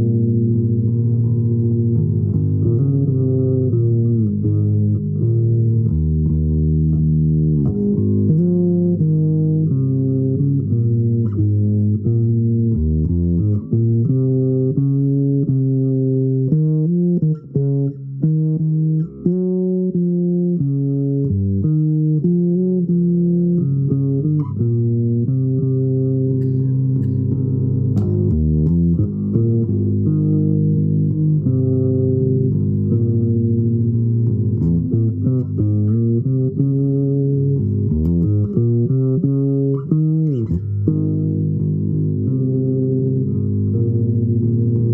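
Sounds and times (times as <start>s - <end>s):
low string instrument notes: 0.0s - 44.9s.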